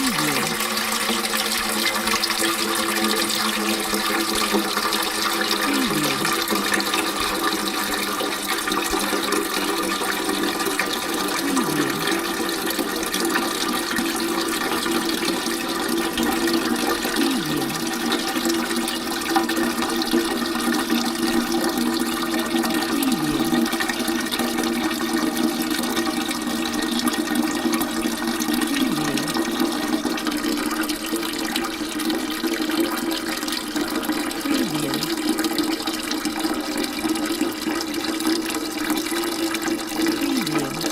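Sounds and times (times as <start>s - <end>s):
water pouring into bucket: 0.0s - 40.9s.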